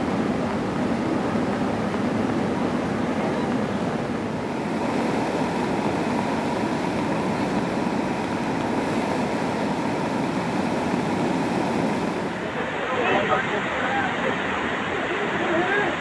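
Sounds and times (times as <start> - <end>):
flooded river rushing: 0.0 - 16.0.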